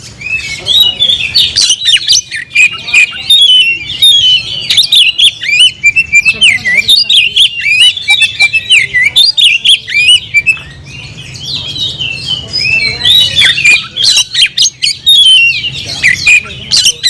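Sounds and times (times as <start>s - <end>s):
bird harsh chattering calls: 0.0s - 17.0s
bird singing whistled notes: 0.0s - 17.0s.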